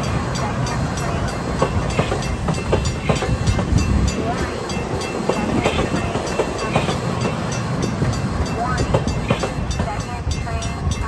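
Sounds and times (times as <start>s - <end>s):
wheel clicks over rail joints: 0.0s - 10.2s
train rumbling past: 0.0s - 11.0s.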